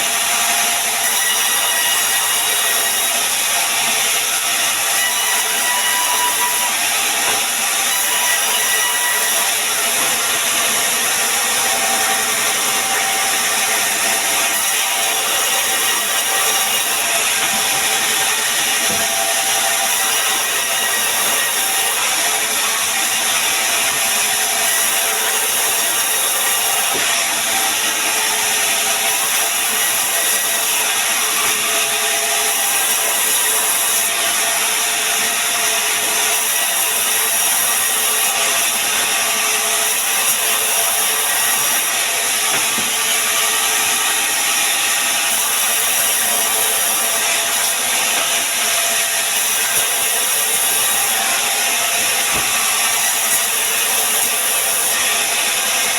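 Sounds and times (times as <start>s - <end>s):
sawmill saw cutting wood: 0.0s - 55.9s.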